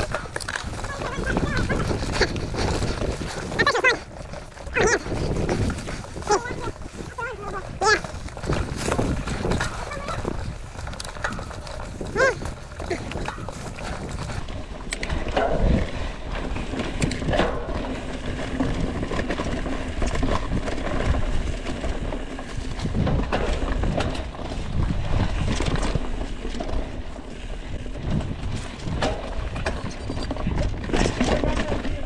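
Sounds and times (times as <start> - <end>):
bike rattling over bumps: 0.0 - 32.0
bike tyres crunching through leaves: 0.0 - 32.0.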